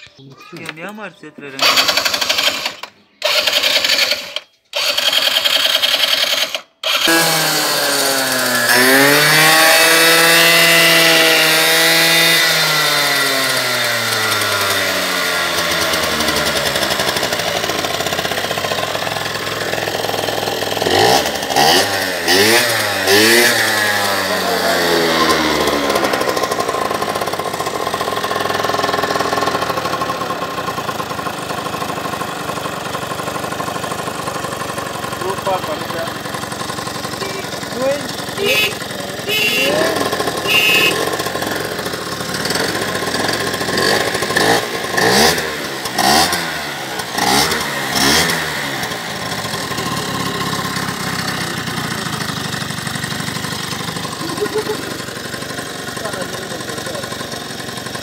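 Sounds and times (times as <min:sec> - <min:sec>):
scooter engine revving and idling: 0:01.5 - 0:58.0.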